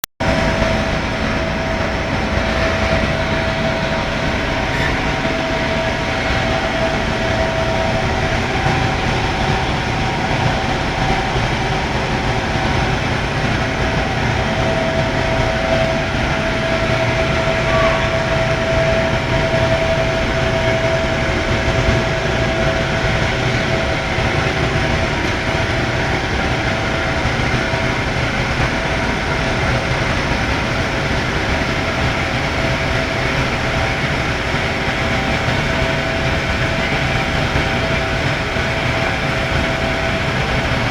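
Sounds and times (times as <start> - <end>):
furnace roaring: 0.2 - 40.9
mid-pitched hum: 0.2 - 40.9.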